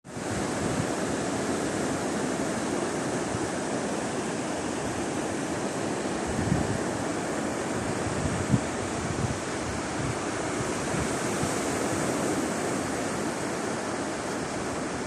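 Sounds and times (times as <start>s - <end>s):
sea surf on sandy shore: 0.0s - 15.0s
wind on microphone: 0.1s - 15.0s.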